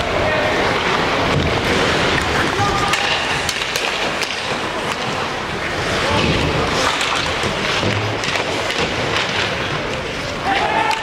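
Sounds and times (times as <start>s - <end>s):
skates scraping ice: 0.0s - 11.0s
hockey sticks clacking on puck: 0.7s - 11.0s.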